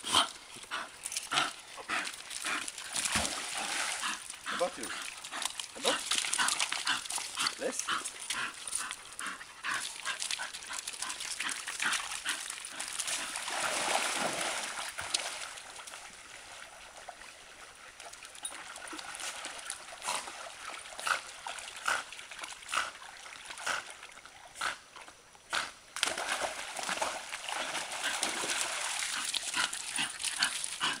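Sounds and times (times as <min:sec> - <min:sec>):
dogs splashing through water: 0:00.2 - 0:24.8, 0:26.0 - 0:31.0.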